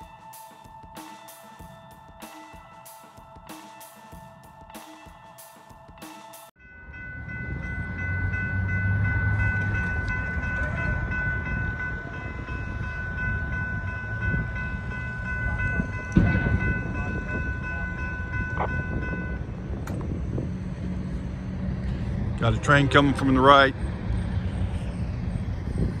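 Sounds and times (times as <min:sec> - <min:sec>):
high-pitched multi-tone ringing: 0:00.0 - 0:21.1
freight train rumbling past: 0:00.0 - 0:26.0.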